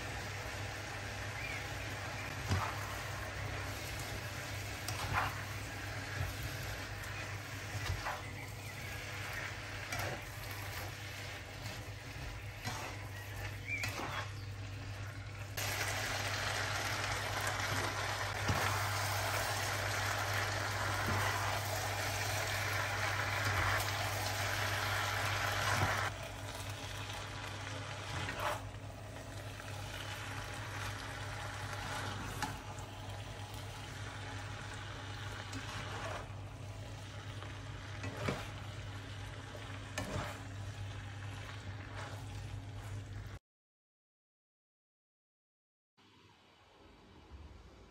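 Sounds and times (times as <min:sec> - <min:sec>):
food sizzling in frying pan: 0:00.0 - 0:43.4.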